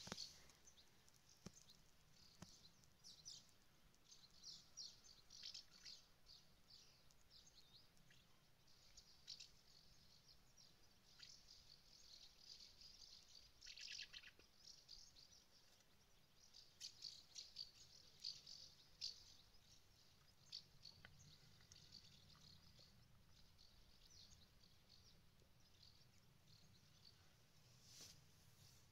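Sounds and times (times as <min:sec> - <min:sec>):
birds chirping overhead: 0:00.0 - 0:28.9.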